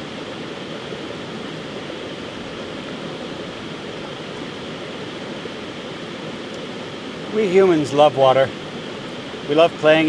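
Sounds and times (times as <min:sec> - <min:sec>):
fast-flowing stream rushing: 0:00.0 - 0:10.0.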